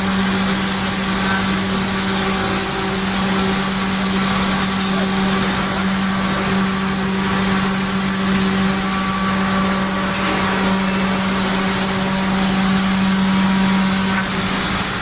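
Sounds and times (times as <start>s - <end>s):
wood router running: 0.0s - 15.0s.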